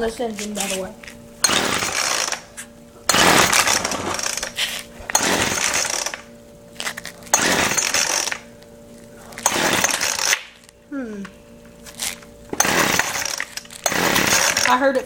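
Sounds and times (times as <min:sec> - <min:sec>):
recoil starter pulls rasping: 0:00.7 - 0:10.8, 0:11.8 - 0:15.0.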